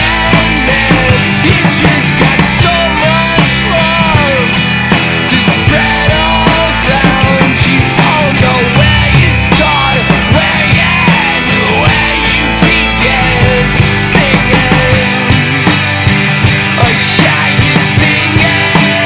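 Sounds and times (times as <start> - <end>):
bending lead guitar line: 0.0 - 19.0
drums striking steadily: 0.0 - 19.0
rock band playing instrumental: 0.0 - 19.0.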